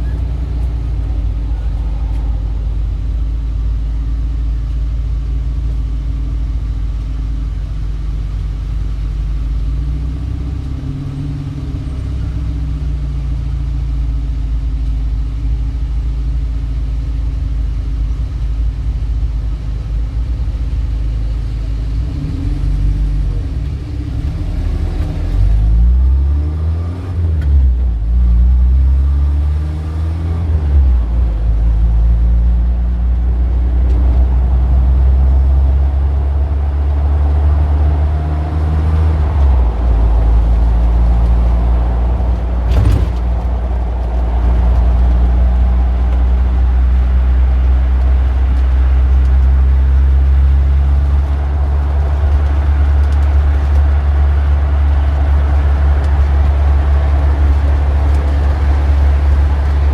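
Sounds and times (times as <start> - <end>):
vehicle engine deep rumble: 0.0 - 59.9.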